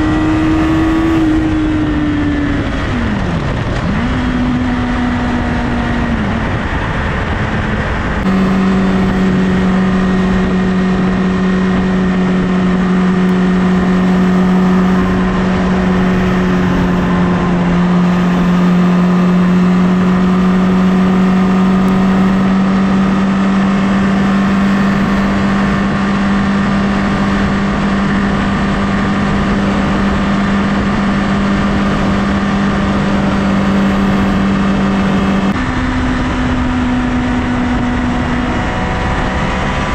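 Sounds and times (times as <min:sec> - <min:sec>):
motorcycle engine cruising: 0:00.0 - 0:39.9
wind noise rushing: 0:00.0 - 0:39.9.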